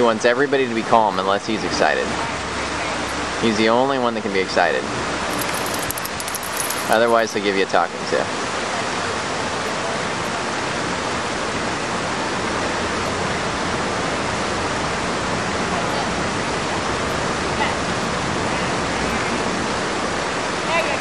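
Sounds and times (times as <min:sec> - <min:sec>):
fountain water splashing: 0:00.0 - 0:21.0.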